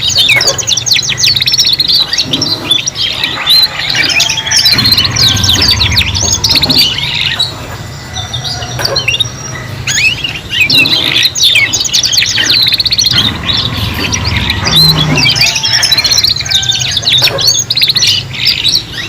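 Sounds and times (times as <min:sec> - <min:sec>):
canaries singing trills: 0:00.0 - 0:19.0.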